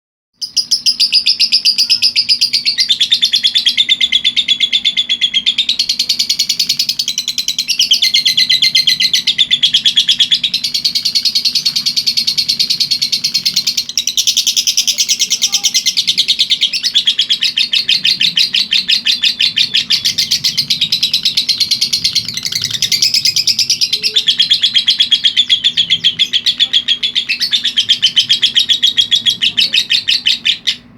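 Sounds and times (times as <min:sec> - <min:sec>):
lovebird chattering: 0:00.4 - 0:30.9.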